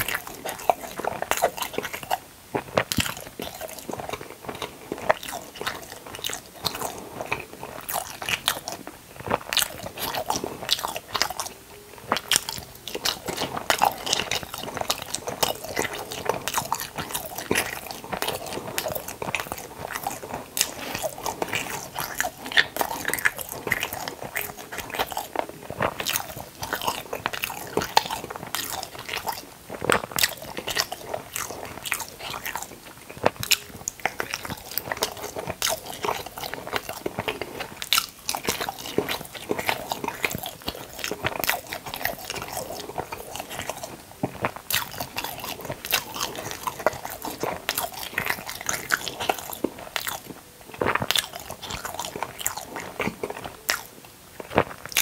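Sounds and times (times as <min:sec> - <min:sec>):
person biting and chewing food: 0:00.0 - 0:55.0.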